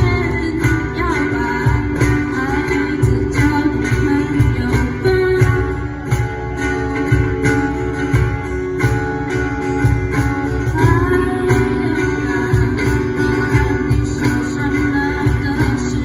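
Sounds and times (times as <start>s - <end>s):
guitar playing: 0.0s - 16.0s
steady drum beat: 0.0s - 16.0s.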